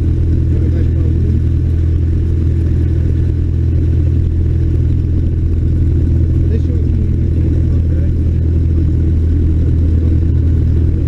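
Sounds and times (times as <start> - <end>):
small plane engine droning: 0.0 - 11.0.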